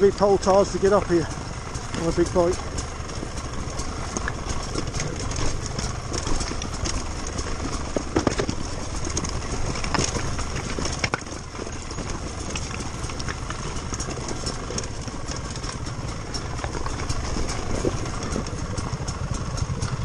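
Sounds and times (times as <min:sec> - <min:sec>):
knocks and rattles: 0:00.0 - 0:20.0
motorcycle engine at low revs: 0:00.0 - 0:20.0.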